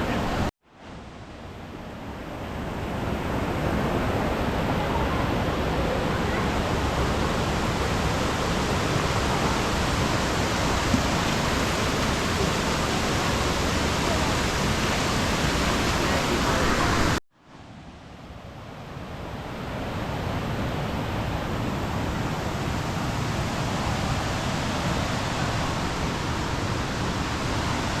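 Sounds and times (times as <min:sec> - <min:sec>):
running water rushing: 0:00.0 - 0:17.2, 0:19.0 - 0:28.0.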